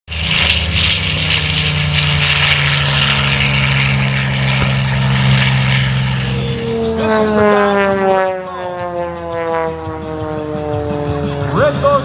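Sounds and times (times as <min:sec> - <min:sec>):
propeller plane engine droning: 0:00.1 - 0:12.0.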